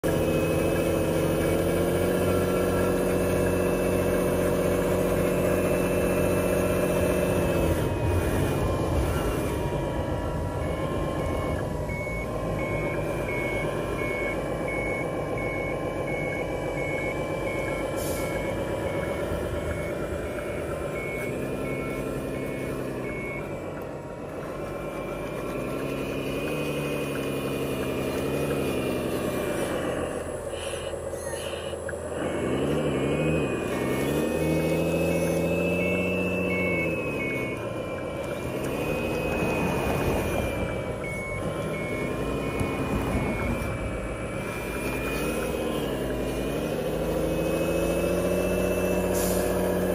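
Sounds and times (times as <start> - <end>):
model motor and pump whine: 0.0 - 49.9
reversing beeps: 0.0 - 49.9.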